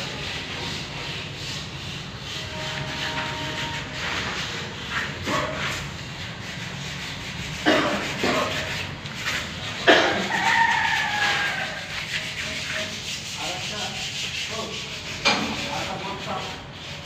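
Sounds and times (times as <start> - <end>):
sandpaper scraping on plaster wall: 0.0 - 17.0.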